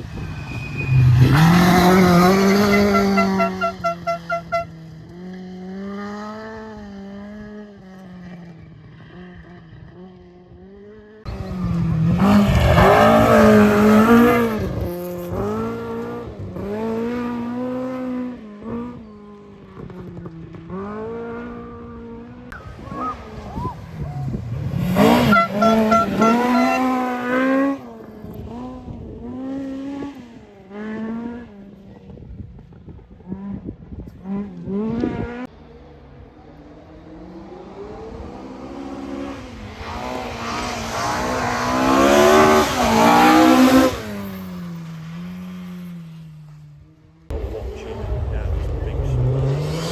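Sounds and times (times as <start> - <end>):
rally car engine revving: 0.0 - 7.5, 11.3 - 31.6, 33.3 - 46.1, 47.3 - 49.9.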